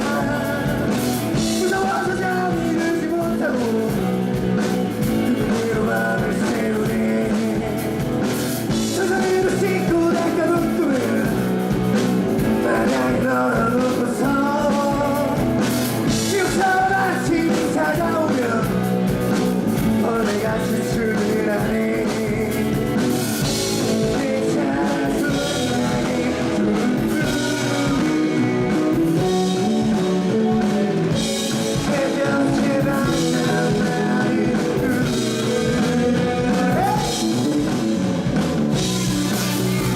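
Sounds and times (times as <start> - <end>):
person singing: 0.0 - 39.9
rock band playing live: 0.0 - 39.9
steady drum beat: 0.0 - 39.9.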